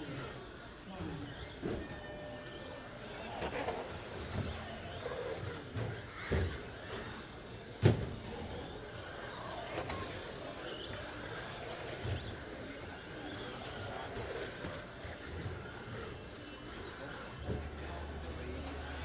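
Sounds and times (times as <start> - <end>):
rc truck motor whine: 0.0 - 19.0.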